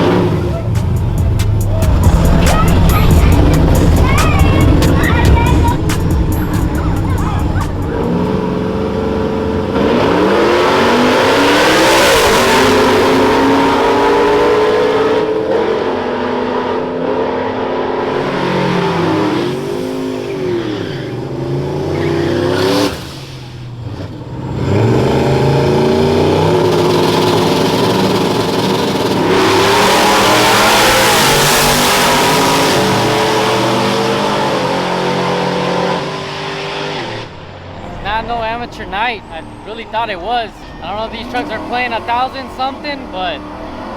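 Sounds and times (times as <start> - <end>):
racing engines revving hard: 0.0 - 43.9.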